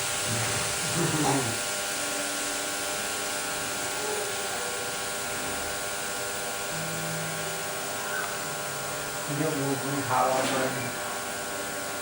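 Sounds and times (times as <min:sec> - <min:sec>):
steady whirring hum: 0:00.0 - 0:12.0.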